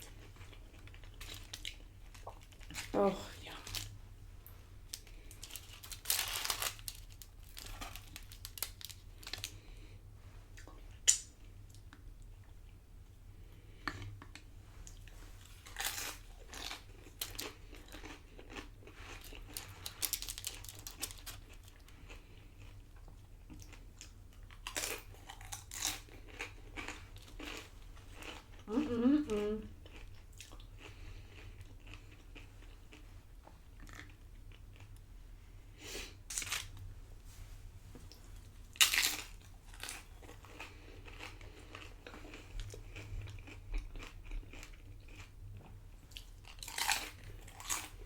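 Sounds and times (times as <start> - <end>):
chewing and crunching chips: 0.0 - 4.0, 4.9 - 9.9, 10.5 - 35.1, 36.0 - 36.8, 38.3 - 48.0.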